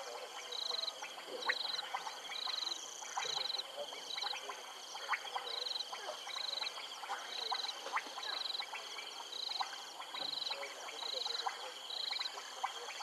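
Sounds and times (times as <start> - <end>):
frogs clicking: 0.0 - 13.0
frogs trilling: 0.0 - 13.0.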